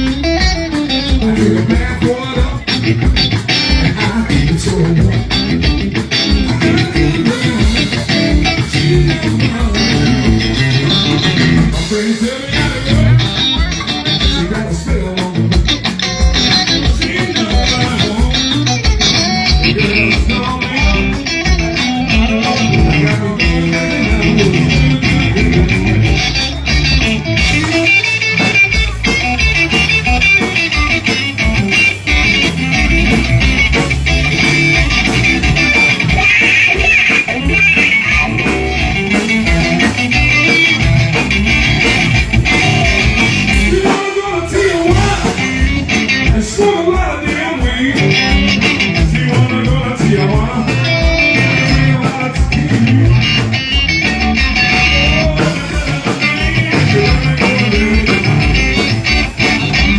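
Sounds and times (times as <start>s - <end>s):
electric guitar: 0.0s - 59.9s
live blues band: 0.0s - 59.9s.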